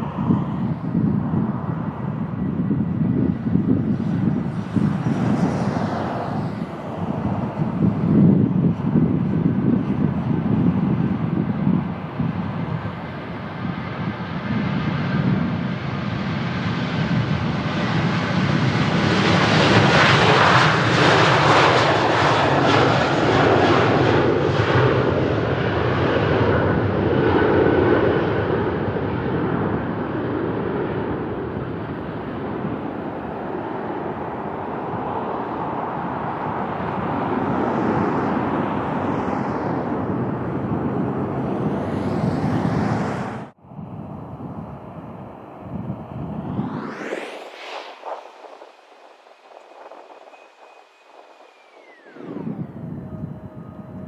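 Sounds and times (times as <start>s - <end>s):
jet engines roaring: 0.0s - 54.0s
wind buffeting microphone: 0.0s - 54.0s.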